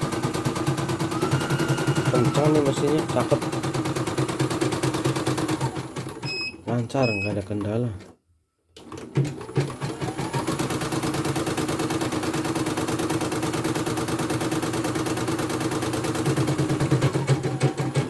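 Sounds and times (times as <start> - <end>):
embroidery machine stitching: 0.0 - 6.6, 8.8 - 18.0.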